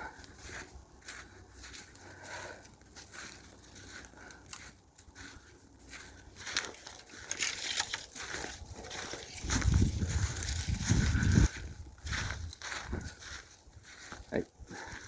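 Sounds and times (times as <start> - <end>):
footsteps crunching through snow: 0.0 - 15.0.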